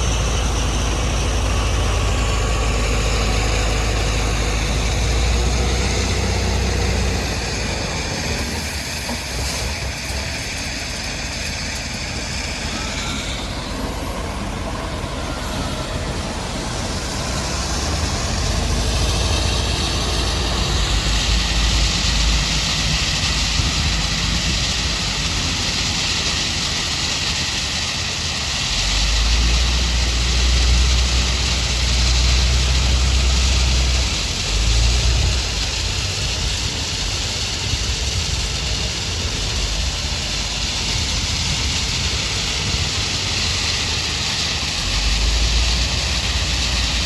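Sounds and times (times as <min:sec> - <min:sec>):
diesel engine rumble: 0:00.0 - 0:47.0
steady hiss: 0:00.0 - 0:47.0.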